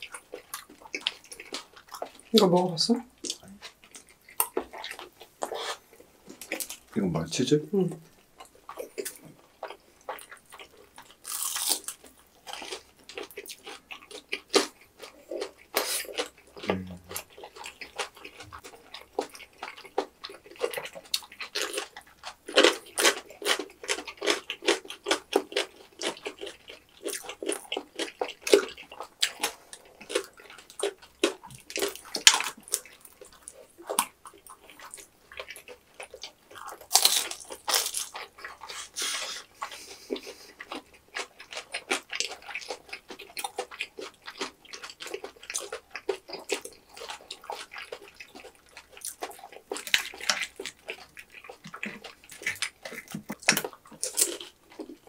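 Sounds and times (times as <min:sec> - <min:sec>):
wet sticky chewing: 0:00.0 - 0:07.0, 0:07.9 - 0:55.0.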